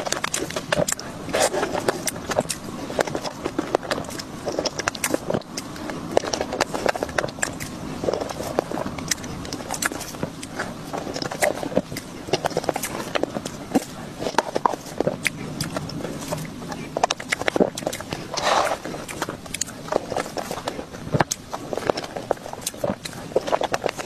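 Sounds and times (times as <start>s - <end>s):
lips and tongue smacking: 0.0s - 24.0s
wet mouth eating sounds: 0.0s - 24.0s.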